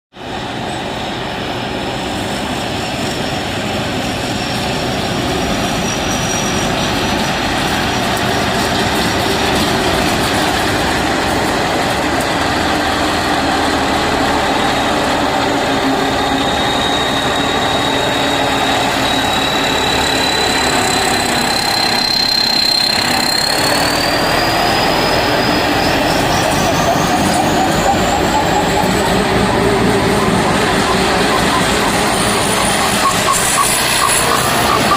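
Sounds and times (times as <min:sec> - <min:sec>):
harvester engine and machinery: 0:00.2 - 0:34.9.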